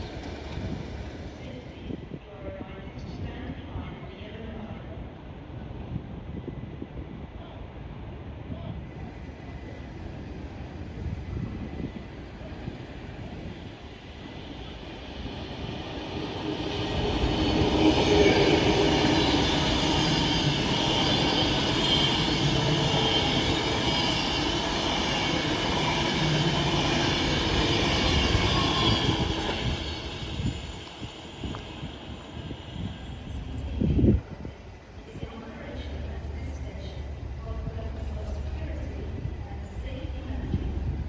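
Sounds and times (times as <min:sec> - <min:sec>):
train passing with high whine: 0:00.0 - 0:41.0.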